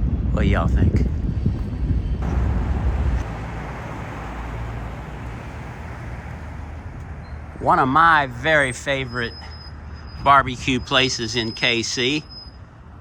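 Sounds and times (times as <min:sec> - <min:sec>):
traffic noise: 0:02.2 - 0:13.0.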